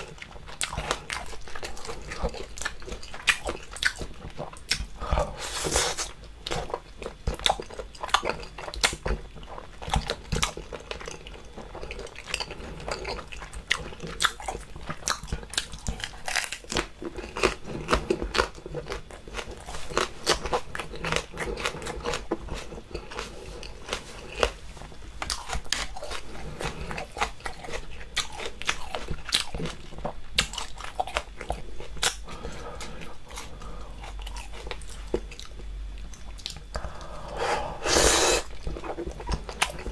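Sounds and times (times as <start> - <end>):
chili pepper crunching: 0.0 - 37.1, 38.1 - 39.9
wet chewing mouth sounds: 0.0 - 39.9.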